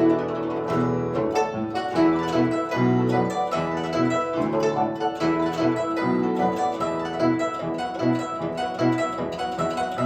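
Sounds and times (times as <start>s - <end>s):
guzheng plucked notes: 0.0s - 10.0s.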